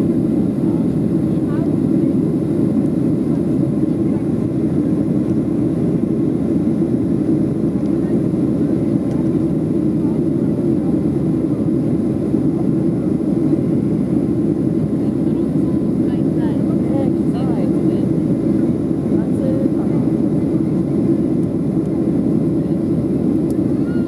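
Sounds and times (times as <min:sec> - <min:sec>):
airplane cabin roar: 0:00.0 - 0:24.0.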